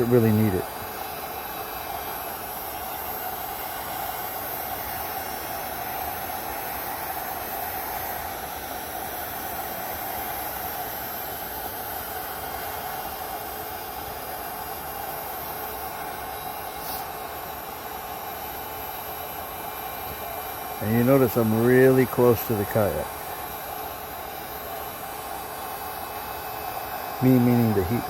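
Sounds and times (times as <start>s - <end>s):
heat gun blowing hot air: 0.0s - 28.0s.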